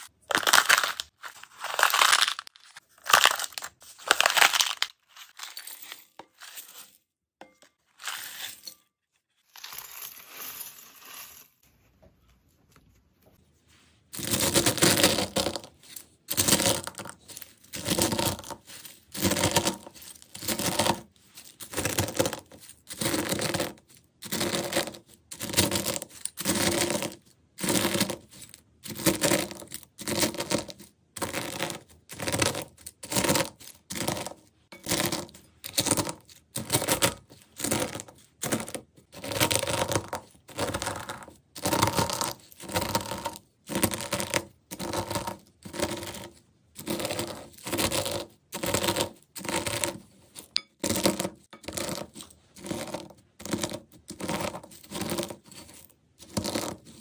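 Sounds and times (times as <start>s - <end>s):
pestle crushing brittle flakes: 0.0s - 8.8s, 9.4s - 11.6s, 14.1s - 57.0s.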